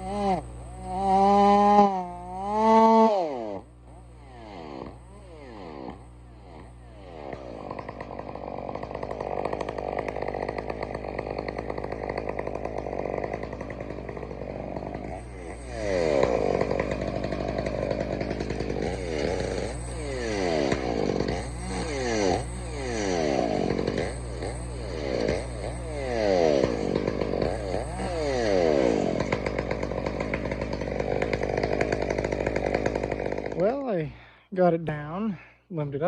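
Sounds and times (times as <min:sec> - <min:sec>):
chainsaw revving: 0:00.0 - 0:34.3.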